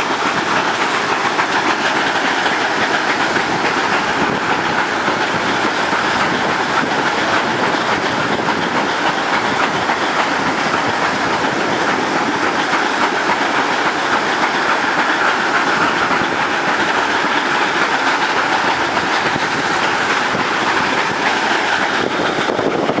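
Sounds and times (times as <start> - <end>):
rail wagons clattering over rails: 0.0 - 23.0.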